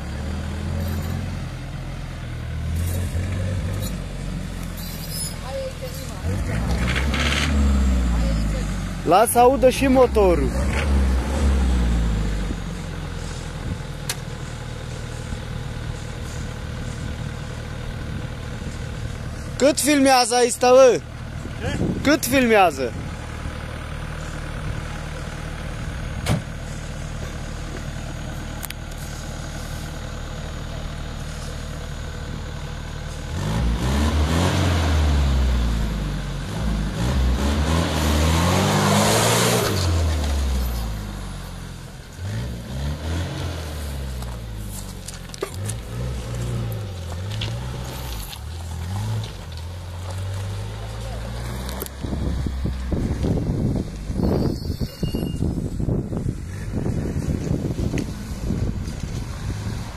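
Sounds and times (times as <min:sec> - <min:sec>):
vehicle engine idling and revving: 0:00.0 - 0:59.9.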